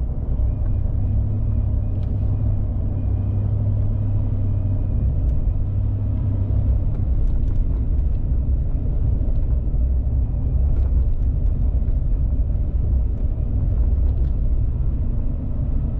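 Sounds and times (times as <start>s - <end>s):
car engine and road noise: 0.0s - 15.9s.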